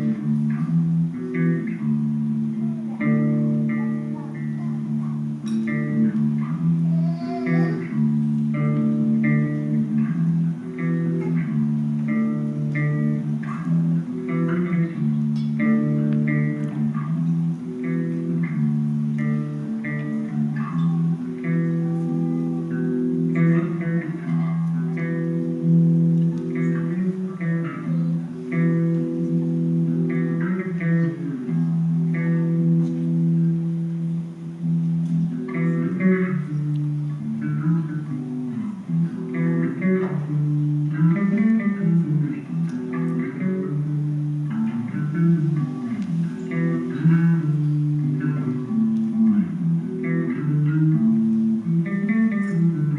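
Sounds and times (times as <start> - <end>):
plucked guitar licks: 0.0 - 52.9.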